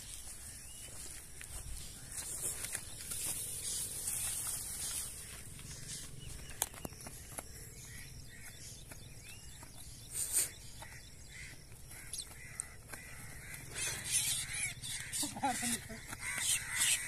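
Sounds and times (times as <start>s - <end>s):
bird calls: 0.0s - 17.0s.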